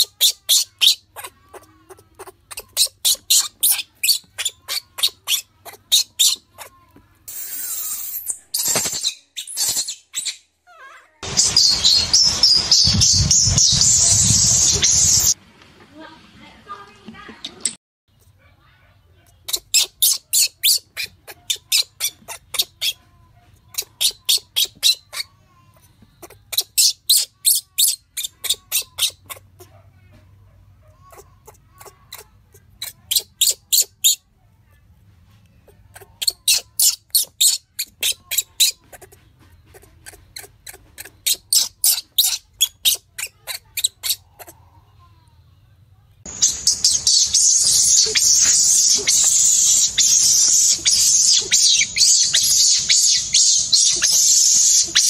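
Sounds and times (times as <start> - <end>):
baby monkey squealing: 0.0 - 15.4, 19.4 - 23.0, 23.7 - 25.5, 26.1 - 29.8, 31.0 - 34.2, 35.7 - 44.6, 46.3 - 55.0.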